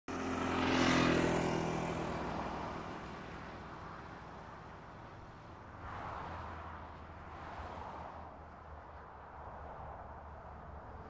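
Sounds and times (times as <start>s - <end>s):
road vehicle passing: 0.1s - 11.0s.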